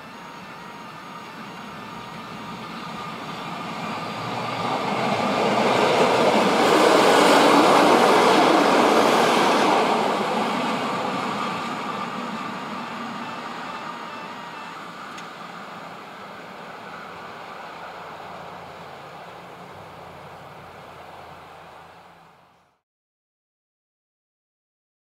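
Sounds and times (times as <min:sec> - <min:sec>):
rail motor engine passing: 0:00.0 - 0:22.8.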